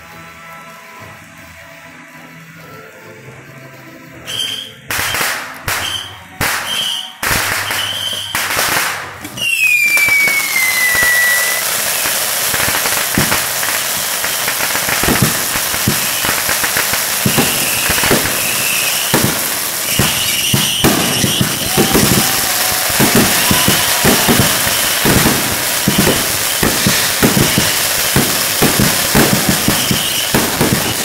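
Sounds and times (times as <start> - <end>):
firework fountain crackling hiss: 3.9 - 31.0
firework whistle falling: 4.2 - 31.0
firework bangs: 4.3 - 31.0
scattered pops: 4.9 - 31.0.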